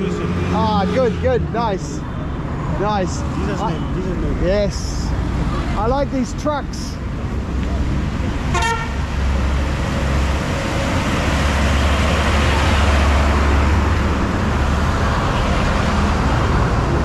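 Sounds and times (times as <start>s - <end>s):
diesel trucks passing: 0.0s - 17.0s.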